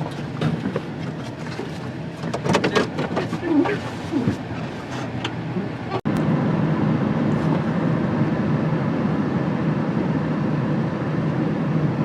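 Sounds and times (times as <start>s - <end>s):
road noise: 0.0s - 12.0s
truck engine: 0.0s - 12.0s.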